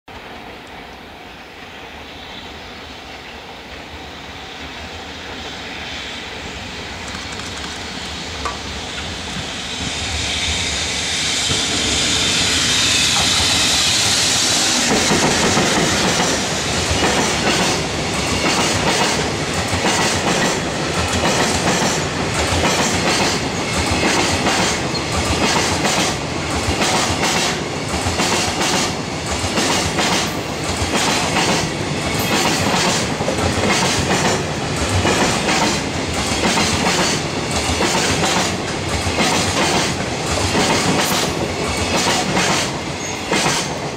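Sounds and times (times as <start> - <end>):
electric locomotive passing: 0.1 - 43.9.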